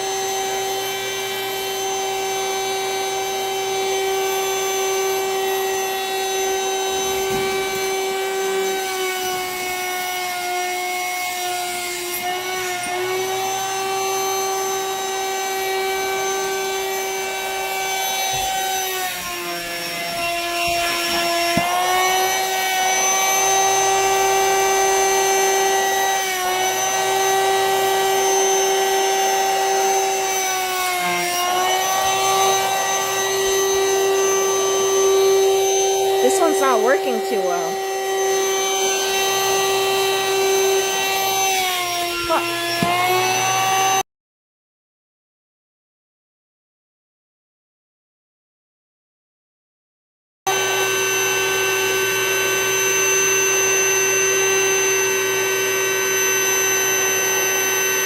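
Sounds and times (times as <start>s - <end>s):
vacuum cleaner motor whine: 0.0s - 44.0s, 50.5s - 58.0s.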